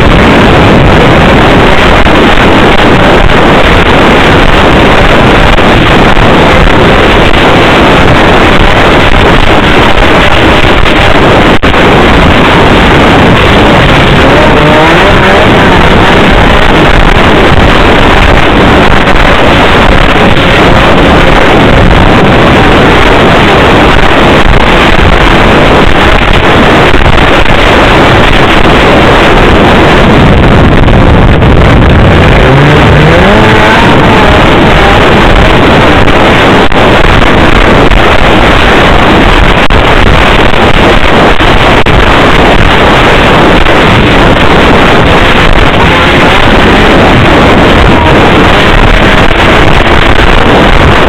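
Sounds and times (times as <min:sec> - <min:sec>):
snowmobile engine running: 0:00.0 - 0:51.0
wind buffeting microphone: 0:00.0 - 0:51.0.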